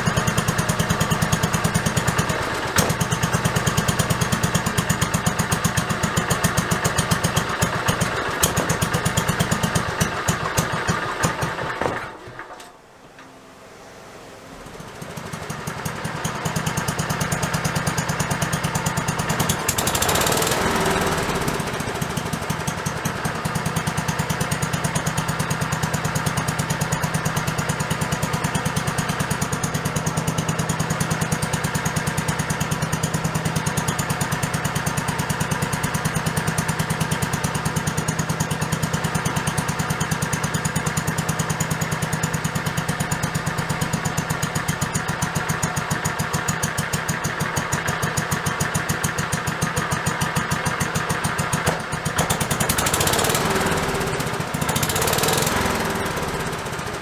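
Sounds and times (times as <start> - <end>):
single-cylinder engine running: 0.0 - 57.0.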